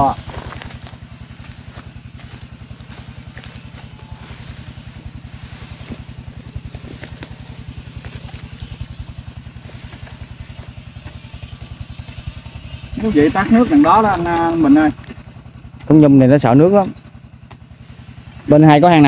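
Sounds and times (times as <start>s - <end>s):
small engine chugging: 0.0s - 19.0s.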